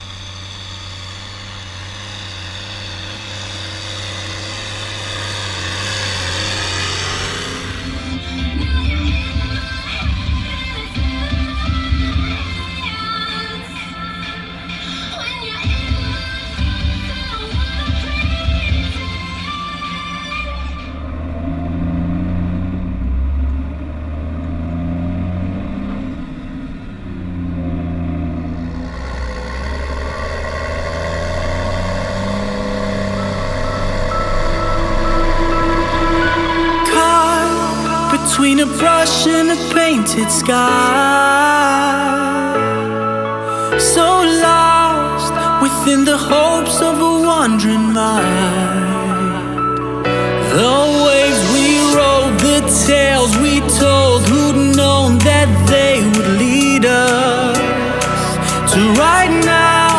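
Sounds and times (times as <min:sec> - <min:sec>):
farm machinery engine humming: 0:00.0 - 0:42.7, 0:43.6 - 0:59.9.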